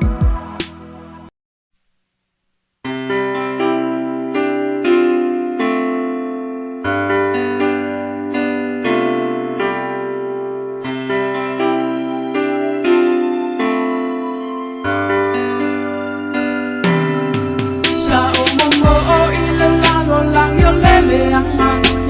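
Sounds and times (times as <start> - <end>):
piano-like keyboard chords: 2.9 - 22.0.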